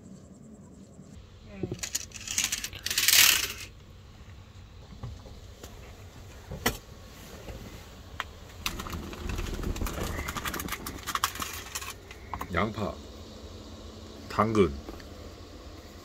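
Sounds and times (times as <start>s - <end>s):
loud rush of hiss: 2.3s - 16.0s.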